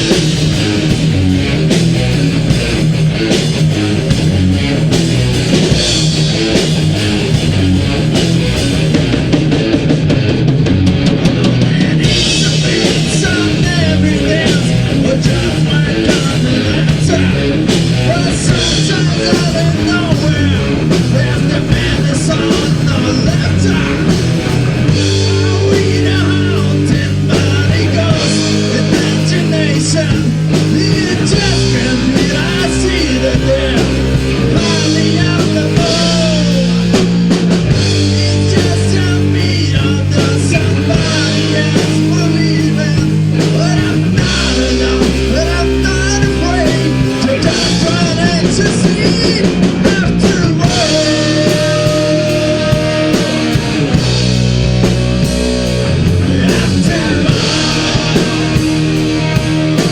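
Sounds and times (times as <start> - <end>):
heavy metal band playing: 0.0 - 59.9
sung or lead line: 0.0 - 59.9.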